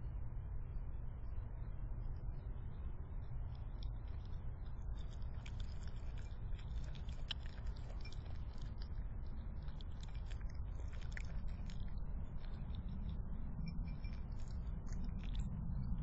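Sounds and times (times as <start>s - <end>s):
steady low hum: 0.0s - 16.0s
animal chewing and crunching food: 0.6s - 16.0s
small irregular clicks: 2.2s - 16.0s.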